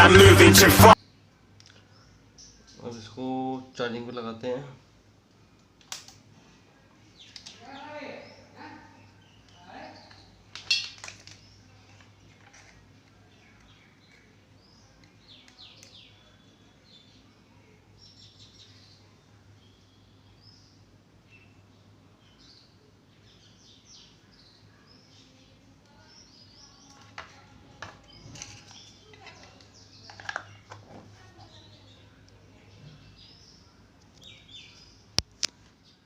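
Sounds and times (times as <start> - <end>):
low electrical hum: 0.9 - 36.0.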